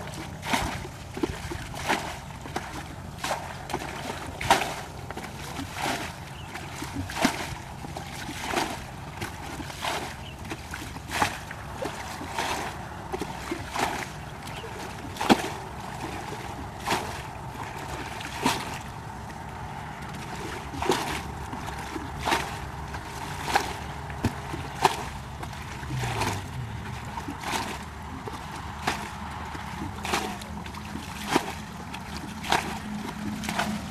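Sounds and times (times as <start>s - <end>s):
water splashing from bucket: 0.0s - 33.9s.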